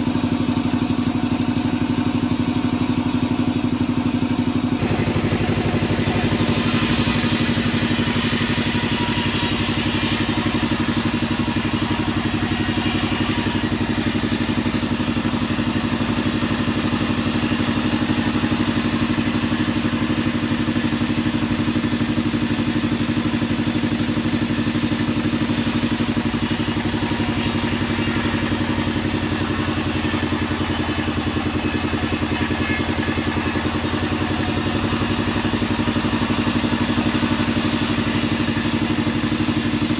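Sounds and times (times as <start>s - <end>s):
band sawmill drone: 3.0s - 39.9s
hiss: 4.8s - 39.9s.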